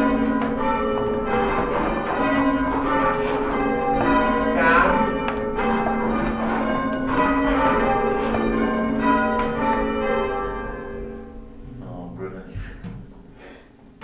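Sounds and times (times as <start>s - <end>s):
church bells ringing changes: 0.0s - 11.6s.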